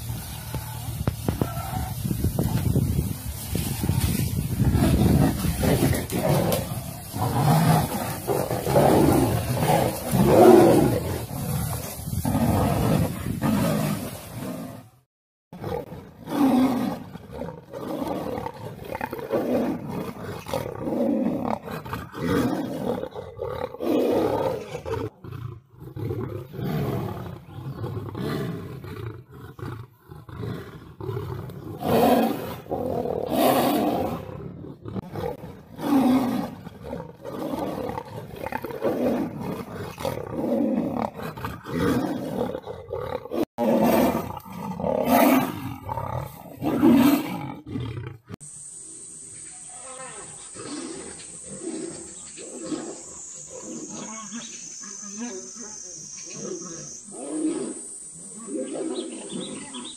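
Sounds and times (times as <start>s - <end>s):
tiger and lion roaring: 0.0s - 48.4s, 49.8s - 54.5s, 56.3s - 59.9s.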